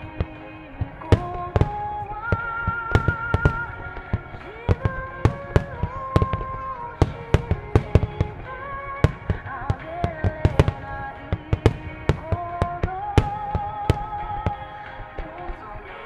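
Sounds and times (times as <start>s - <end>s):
firework shells booming: 0.0s - 16.0s
music with gliding melody: 0.0s - 16.0s.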